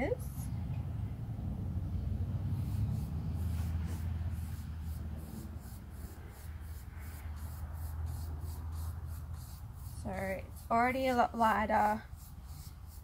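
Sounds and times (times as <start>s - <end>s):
steady low rumble: 0.0s - 12.3s
paintbrush brushing on wood: 2.4s - 13.0s.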